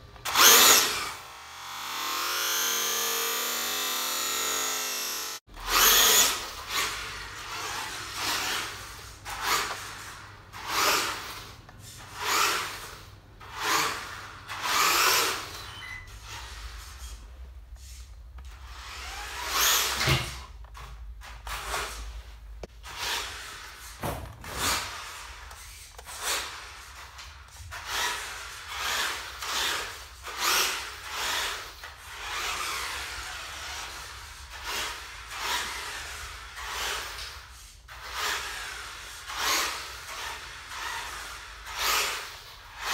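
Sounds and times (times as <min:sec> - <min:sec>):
rc car motor revving: 0:00.2 - 0:15.6, 0:17.9 - 0:20.2, 0:24.6 - 0:42.9.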